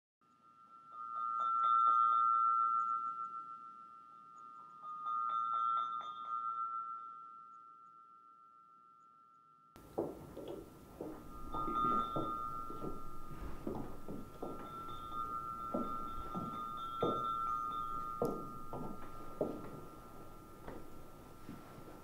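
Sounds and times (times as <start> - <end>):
metallic chime tone: 0.2 - 22.0
light tinkling strikes: 0.4 - 8.0, 9.8 - 22.0.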